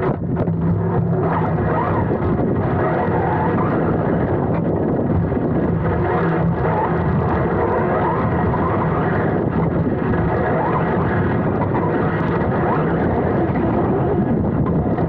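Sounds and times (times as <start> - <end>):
rushing tyre and air noise: 0.0 - 15.0.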